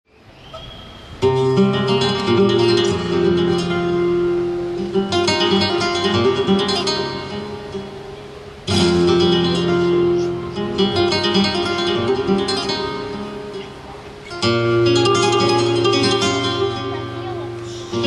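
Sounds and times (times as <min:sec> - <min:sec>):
flamenco acoustic guitar music: 0:01.2 - 0:18.0
sharply strummed guitar chords: 0:01.2 - 0:18.0.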